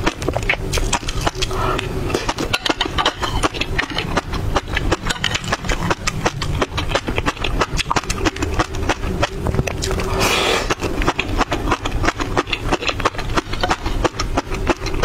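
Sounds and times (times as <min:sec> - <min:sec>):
low mouth rumble: 0:00.0 - 0:15.0.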